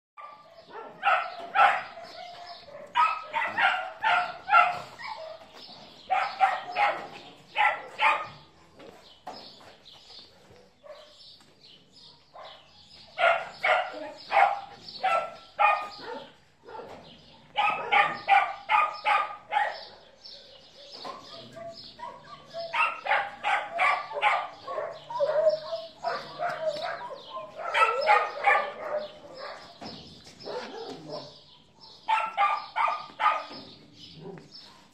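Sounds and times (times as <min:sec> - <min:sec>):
dog barking: 0:00.2 - 0:05.4, 0:06.1 - 0:08.4, 0:10.4 - 0:11.2, 0:12.1 - 0:29.8, 0:30.4 - 0:34.9.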